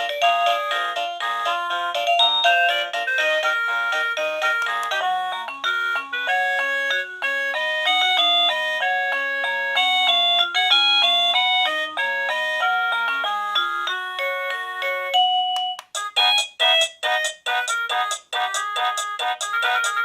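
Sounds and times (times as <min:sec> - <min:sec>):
doorbell electronic melody: 0:00.0 - 0:20.0.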